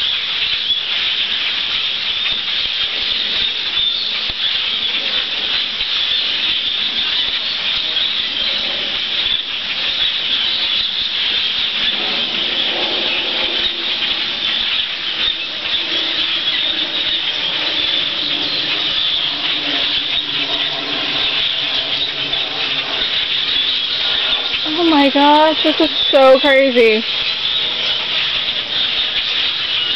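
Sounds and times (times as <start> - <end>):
flock of birds calling: 0.0 - 29.9.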